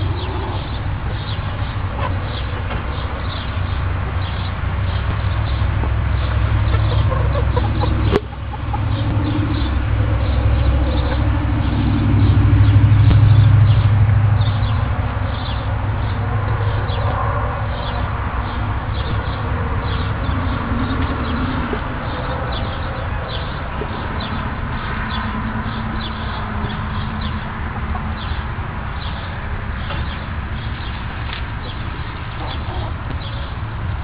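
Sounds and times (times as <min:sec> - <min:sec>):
chickens clucking: 0:00.0 - 0:13.2, 0:15.5 - 0:33.7
steady low hum: 0:00.0 - 0:34.0.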